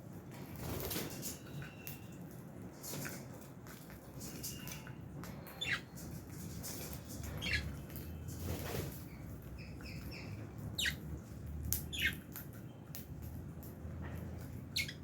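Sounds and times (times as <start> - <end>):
lovebirds chirping and squawking: 0.6 - 15.0.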